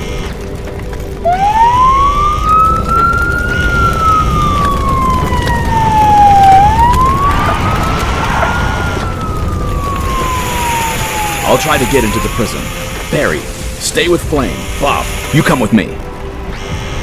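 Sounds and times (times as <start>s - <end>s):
emergency vehicle siren wailing: 0.0s - 13.8s.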